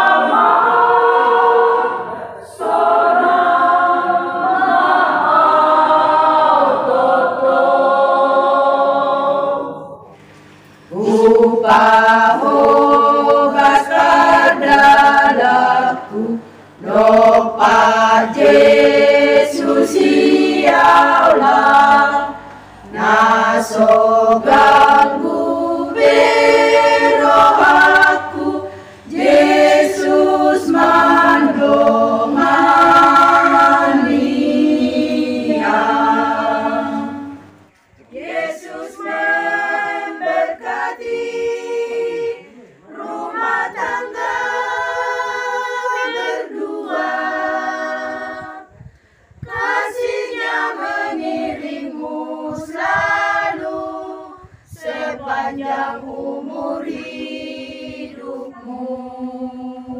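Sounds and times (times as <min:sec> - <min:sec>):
women's choir singing a cappella: 0:00.0 - 0:59.9.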